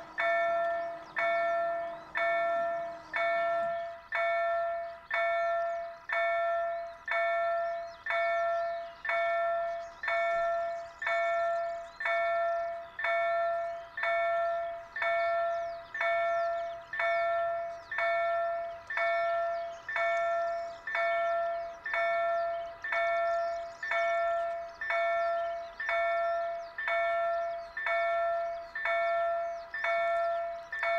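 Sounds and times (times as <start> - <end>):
level-crossing warning bell: 0.0 - 30.9.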